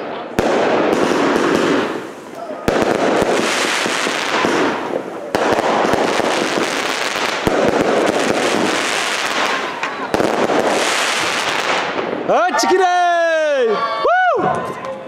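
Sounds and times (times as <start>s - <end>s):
firework shots bursting: 0.0s - 12.3s
dense firework crackling: 0.0s - 12.5s.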